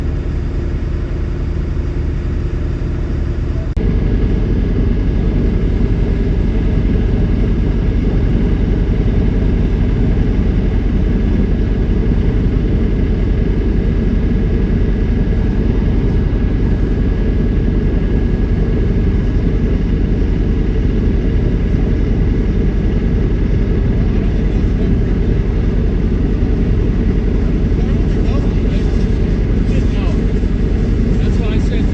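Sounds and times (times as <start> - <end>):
low machine noise: 0.0 - 31.9.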